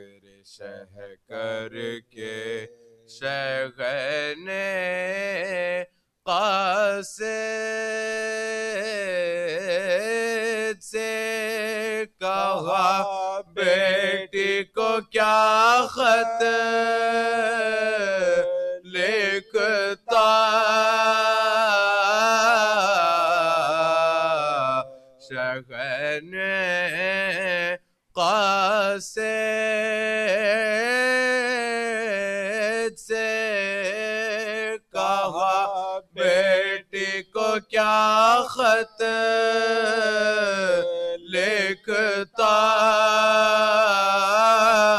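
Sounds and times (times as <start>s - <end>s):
man chanting unaccompanied: 0.0s - 44.9s.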